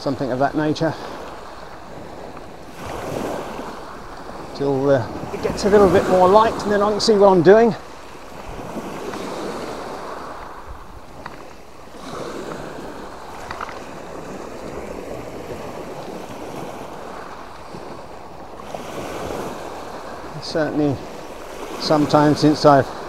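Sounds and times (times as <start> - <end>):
waves washing up shingle beach: 0.0 - 23.0.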